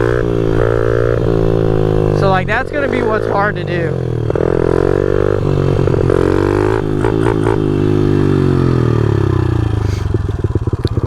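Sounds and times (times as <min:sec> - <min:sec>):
small motorbike engine under throttle: 0:00.0 - 0:11.0.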